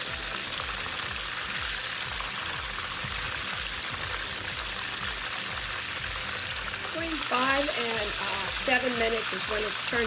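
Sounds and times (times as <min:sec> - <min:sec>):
chicken wings sizzling in oil: 0:00.0 - 0:10.0.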